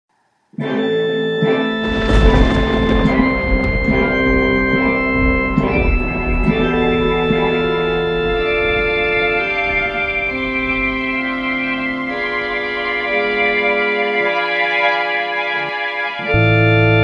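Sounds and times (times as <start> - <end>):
organ chords: 0.6 - 17.0.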